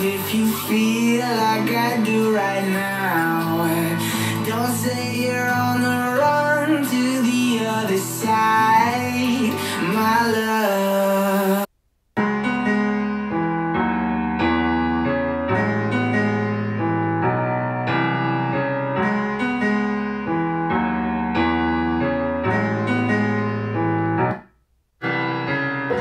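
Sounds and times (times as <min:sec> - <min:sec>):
electric piano chords: 0:00.0 - 0:10.9, 0:12.2 - 0:26.0.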